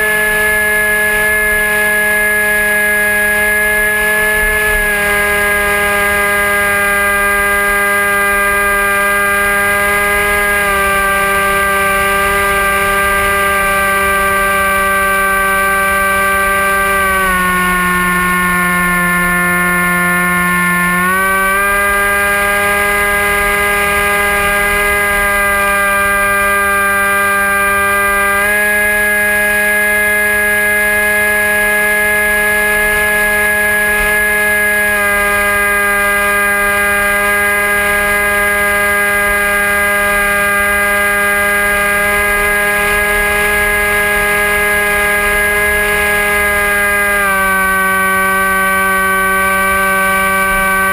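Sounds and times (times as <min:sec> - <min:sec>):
electric motor and propeller whining: 0:00.0 - 0:50.9.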